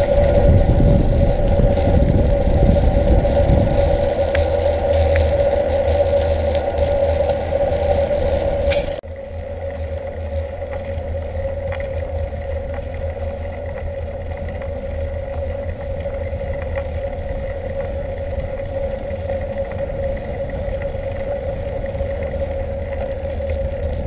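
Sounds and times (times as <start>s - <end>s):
bike rattling clicks: 0.0s - 9.0s, 10.6s - 24.0s
bike tyres rolling on asphalt: 0.0s - 24.0s
low rumble: 0.0s - 24.0s.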